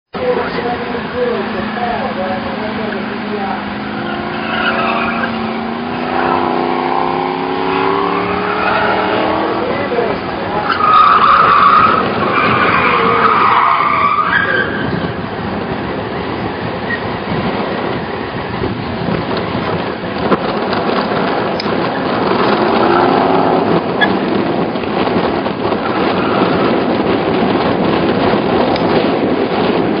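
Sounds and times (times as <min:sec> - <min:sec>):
faint car engine: 0:00.2 - 0:29.9
wind rumbling on microphone: 0:00.2 - 0:30.0.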